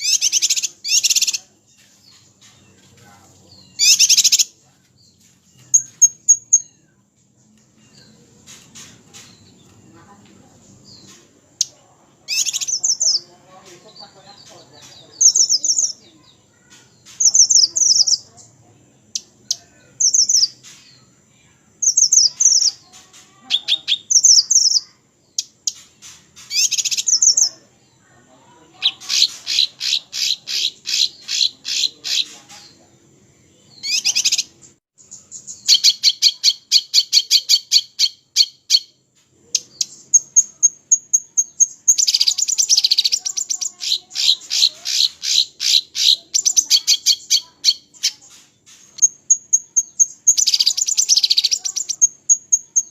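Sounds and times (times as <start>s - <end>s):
songbird singing trills: 0.0s - 52.9s.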